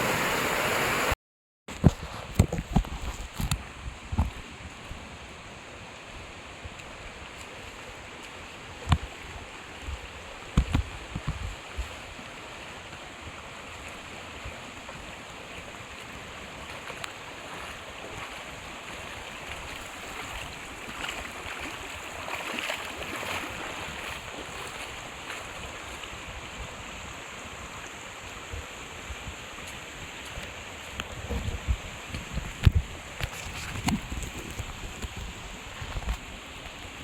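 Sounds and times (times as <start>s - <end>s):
flowing water rushing: 0.0s - 1.2s, 1.8s - 37.0s.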